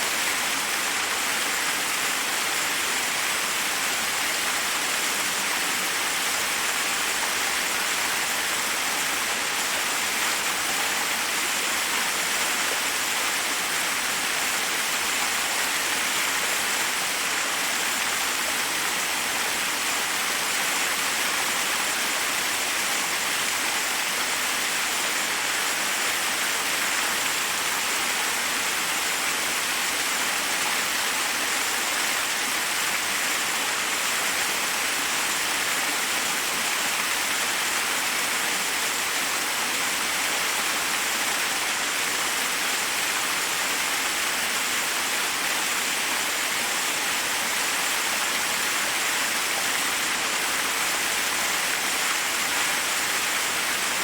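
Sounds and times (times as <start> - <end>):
waterfall over rocks: 0.0 - 54.0.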